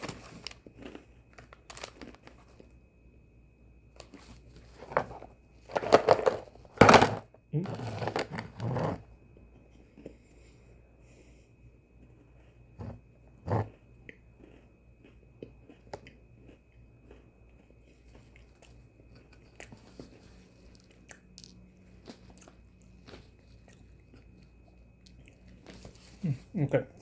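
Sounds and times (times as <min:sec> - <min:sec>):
person chewing crunchy cookies: 0:00.0 - 0:03.2, 0:07.5 - 0:27.0.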